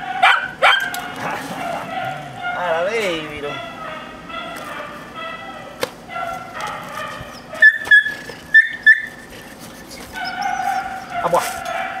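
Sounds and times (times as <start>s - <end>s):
dog yipping: 0.0s - 12.0s
dog whining: 0.2s - 12.0s.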